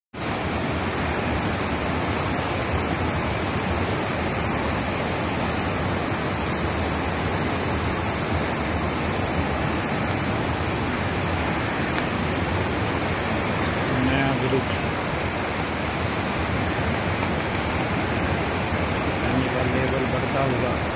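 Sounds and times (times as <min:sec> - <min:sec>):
river torrent roaring: 0:00.2 - 0:20.9.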